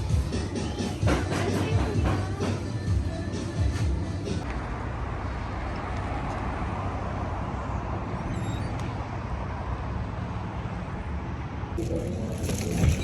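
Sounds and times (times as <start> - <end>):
vehicle road and engine drone: 0.0 - 13.0.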